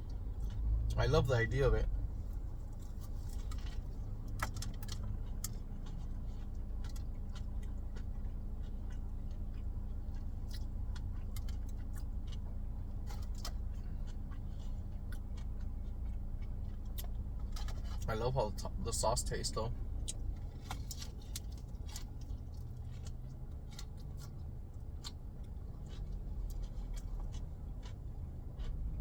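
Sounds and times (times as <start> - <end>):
chewing and mouth clicks: 0.0 - 1.5, 2.1 - 29.0
low engine or fan hum: 0.0 - 29.0.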